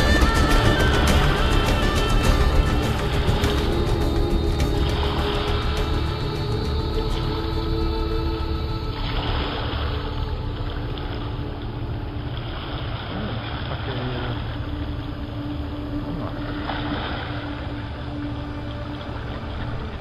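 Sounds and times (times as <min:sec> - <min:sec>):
choppy river water: 0:00.0 - 0:20.0
distant barge engine hum: 0:00.0 - 0:20.0
wind rumbling on microphone: 0:00.0 - 0:20.0.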